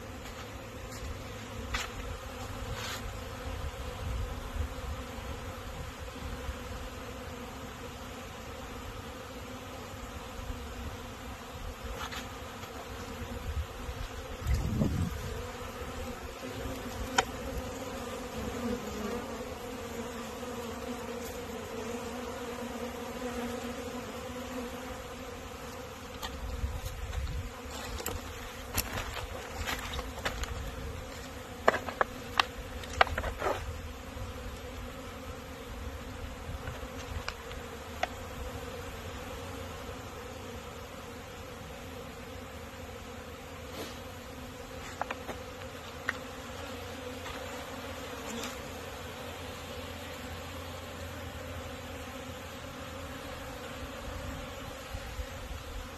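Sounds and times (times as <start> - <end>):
honeybees buzzing: 0.0 - 55.9.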